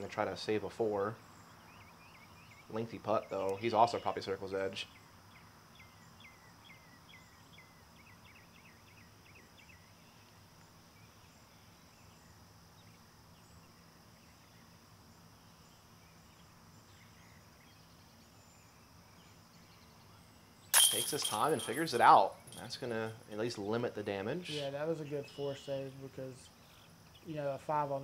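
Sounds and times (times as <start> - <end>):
bird chirping: 0.0 - 28.0
high insect drone: 0.0 - 28.0.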